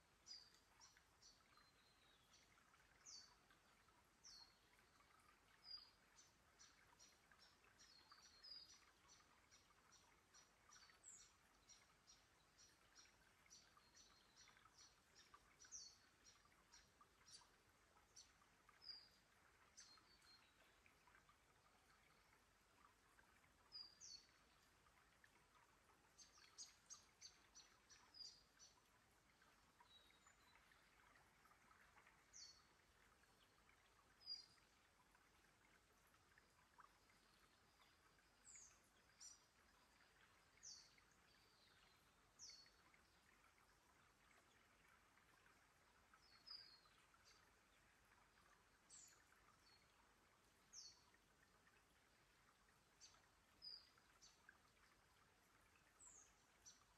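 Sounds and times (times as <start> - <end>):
faint creek trickling: 0.0 - 56.9.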